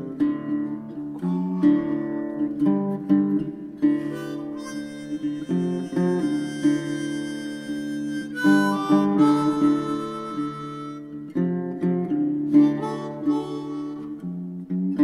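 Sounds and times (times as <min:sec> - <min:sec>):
harmonica melody: 0:00.0 - 0:02.9, 0:03.5 - 0:15.0
acoustic guitar strumming: 0:00.0 - 0:15.0.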